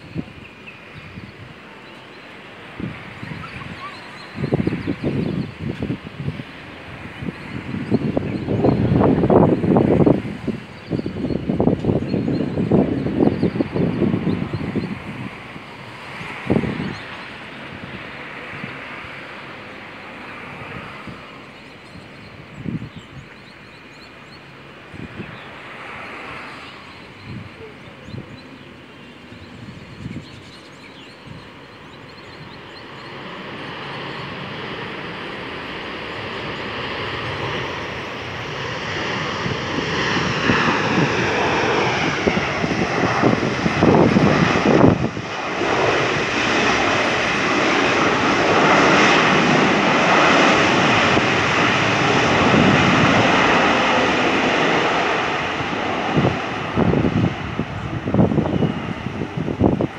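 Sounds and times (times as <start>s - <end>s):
jet engines roaring on runway: 0.0s - 59.9s.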